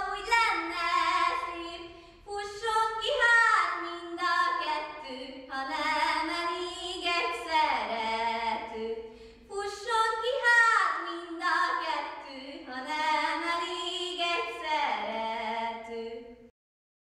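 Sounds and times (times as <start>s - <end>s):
girl singing unaccompanied: 0.0s - 16.5s.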